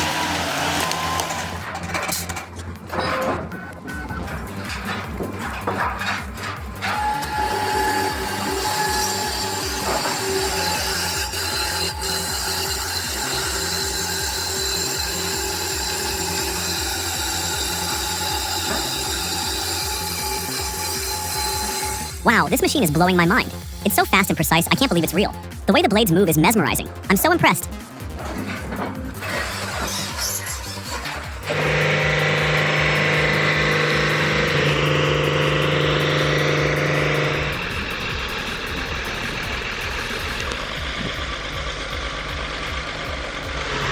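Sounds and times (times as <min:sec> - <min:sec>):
wood-processing machine running: 0:00.0 - 0:25.6, 0:26.7 - 0:43.9.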